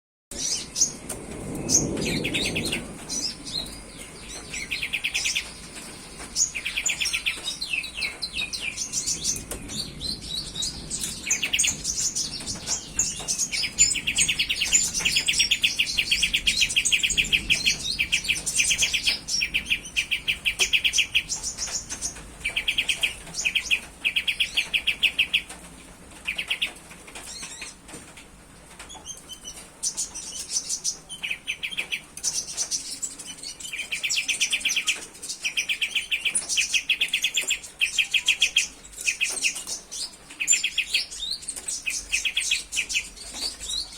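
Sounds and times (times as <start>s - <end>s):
canary singing trills: 1.6s - 25.5s, 29.0s - 43.9s.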